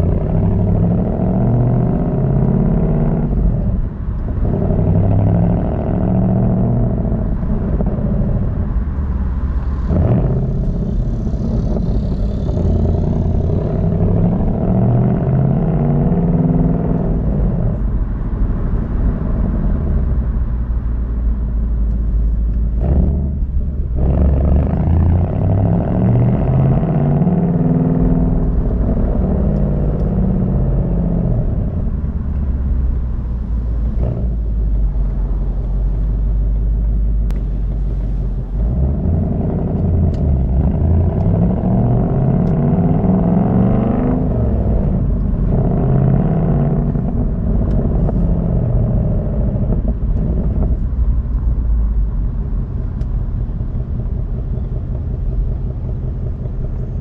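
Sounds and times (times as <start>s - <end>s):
car exhaust accelerating: 0.0s - 57.0s.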